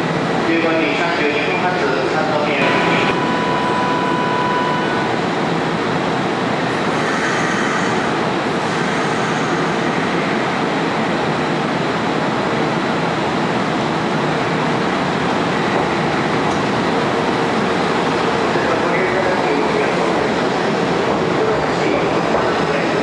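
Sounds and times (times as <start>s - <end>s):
steady train hum: 0.0s - 23.0s.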